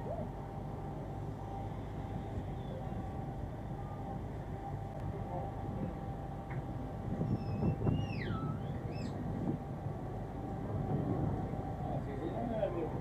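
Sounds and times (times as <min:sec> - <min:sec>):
faint steady whine: 0:00.0 - 0:13.0
ship engines droning: 0:00.0 - 0:13.0.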